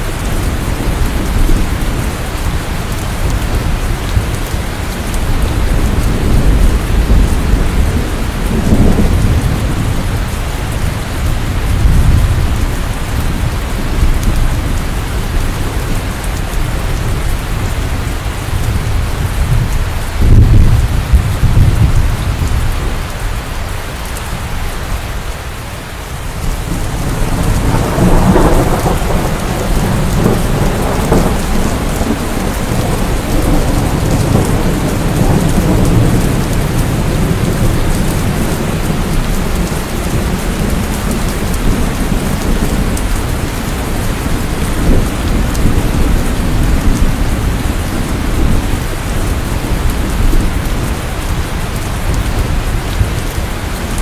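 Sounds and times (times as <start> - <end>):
thunder rumbling: 0.0 - 25.0, 26.0 - 54.0
heavy rain: 0.0 - 54.0.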